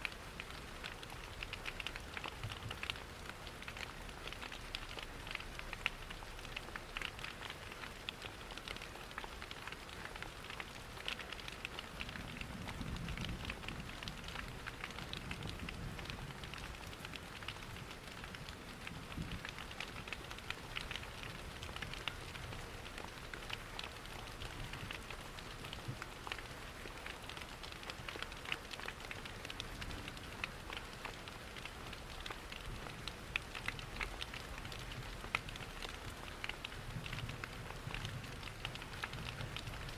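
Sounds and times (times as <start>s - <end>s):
rain pattering: 0.0s - 39.9s
falling water rumble: 0.1s - 39.9s
wood fire crackling: 0.4s - 39.9s.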